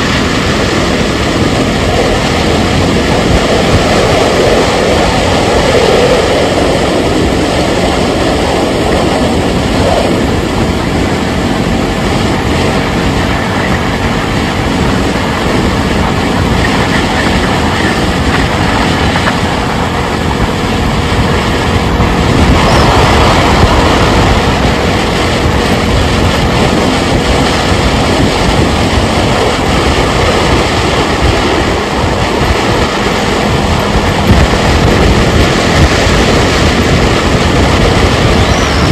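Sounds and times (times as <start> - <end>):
vehicle road and wind noise: 0.0 - 38.9.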